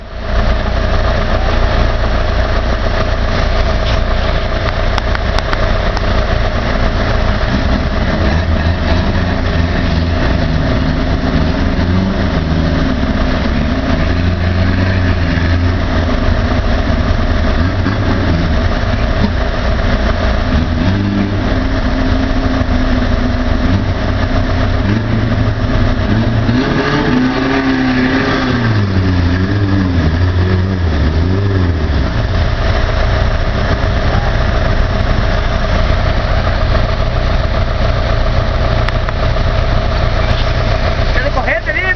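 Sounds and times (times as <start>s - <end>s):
vehicle engine revving: 0.0s - 41.9s.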